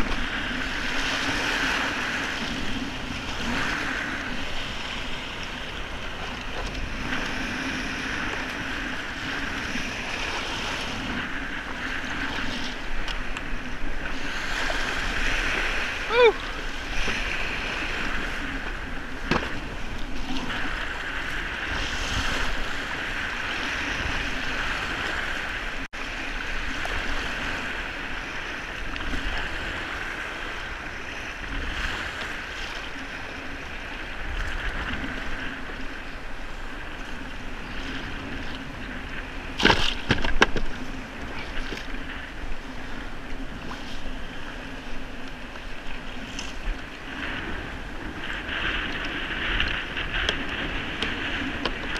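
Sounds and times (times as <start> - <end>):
paddle splashes: 0.0 - 51.9
water slapping against kayak: 0.0 - 51.9.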